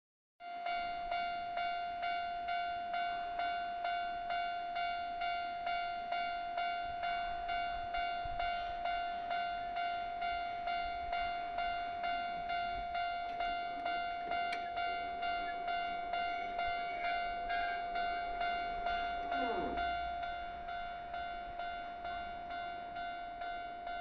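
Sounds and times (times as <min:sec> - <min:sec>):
level-crossing warning bell ringing: 0:00.4 - 0:24.0.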